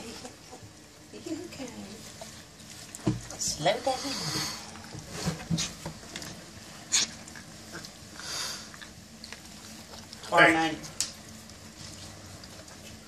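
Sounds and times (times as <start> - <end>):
puppies crunching kibble: 0.0 - 13.0.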